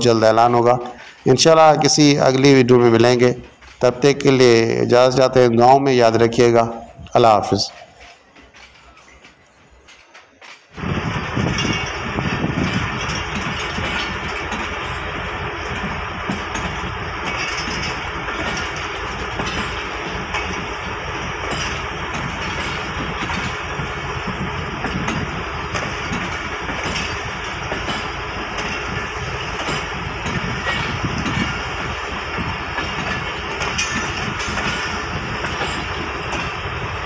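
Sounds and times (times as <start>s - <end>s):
train wheels on rail: 0.0s - 37.0s
wheels clicking over track: 0.0s - 37.0s.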